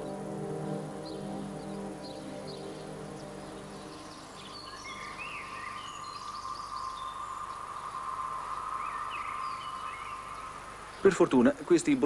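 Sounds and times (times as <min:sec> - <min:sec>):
background music: 0:00.0 - 0:11.2
insect-like drone: 0:00.0 - 0:12.0
small birds chirping: 0:00.0 - 0:12.0.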